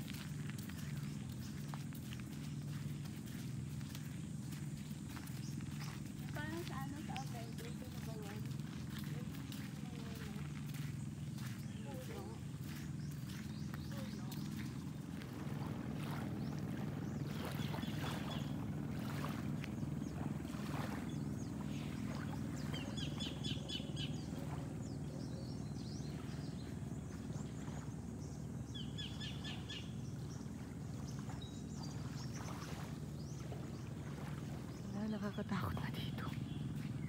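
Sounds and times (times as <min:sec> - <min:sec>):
low outdoor rumble: 0:00.0 - 0:37.0.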